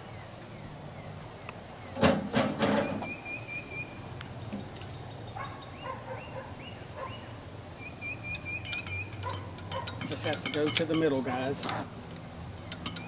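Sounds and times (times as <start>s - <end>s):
small birds chirping and trilling: 0.0s - 11.7s.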